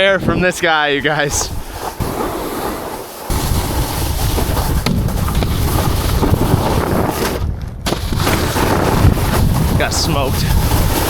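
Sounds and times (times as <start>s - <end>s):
wind buffeting microphone: 0.0s - 2.4s, 3.3s - 11.0s.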